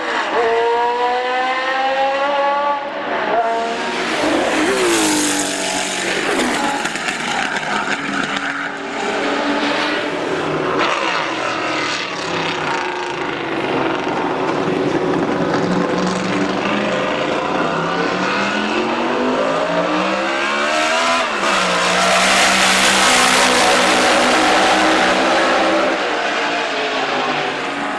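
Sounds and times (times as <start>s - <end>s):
racing car engines at full throttle: 0.0s - 27.9s.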